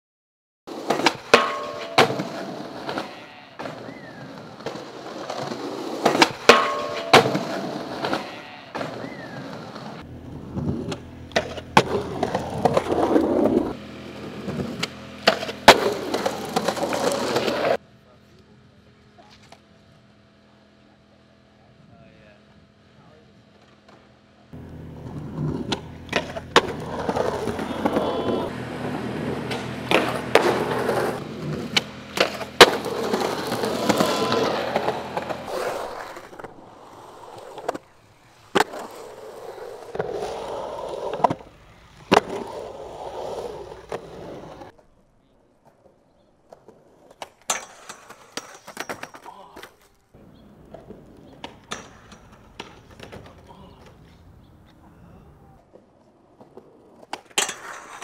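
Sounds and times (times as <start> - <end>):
skateboard clacks: 0.7 - 17.8, 23.6 - 44.9, 45.6 - 54.8, 55.6 - 58.0
skateboard wheels rolling on concrete: 0.7 - 20.2, 23.0 - 58.0.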